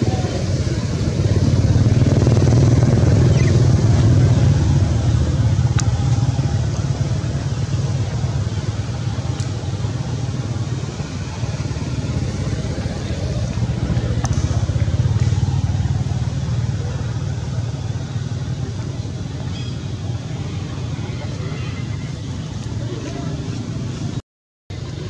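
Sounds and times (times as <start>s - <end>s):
engine running low rumble: 0.0s - 25.0s.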